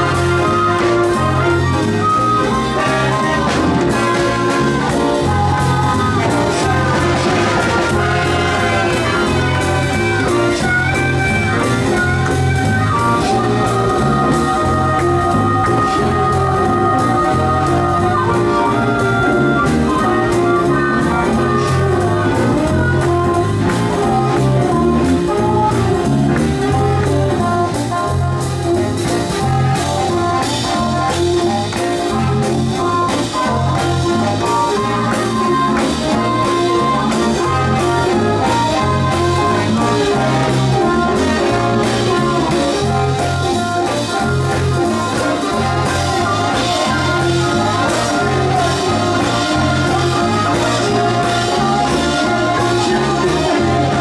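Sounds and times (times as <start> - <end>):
bass line: 0.0 - 54.0
brass melody: 0.0 - 54.0
drum kit beat: 0.0 - 54.0.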